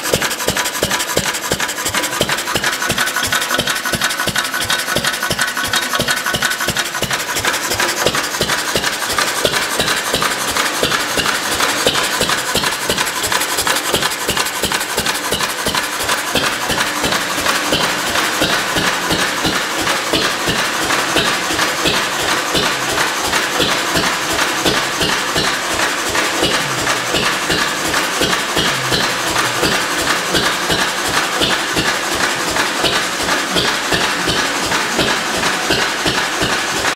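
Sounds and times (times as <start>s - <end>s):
stationary engine running: 0.0s - 36.9s.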